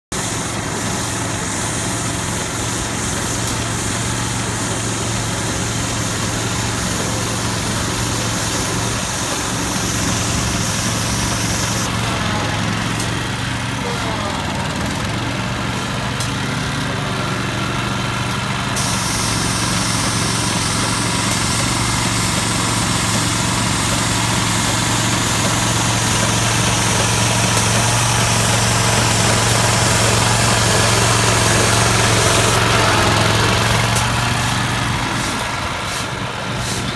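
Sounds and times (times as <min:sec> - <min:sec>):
high hiss of paint spray guns: 0:00.2 - 0:14.1, 0:17.8 - 0:36.9
small engine running: 0:00.2 - 0:36.9.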